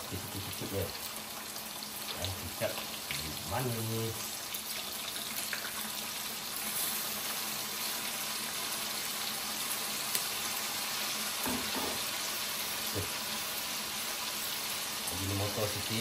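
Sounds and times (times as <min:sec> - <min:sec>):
meat sizzling in a wok: 0:00.0 - 0:16.0.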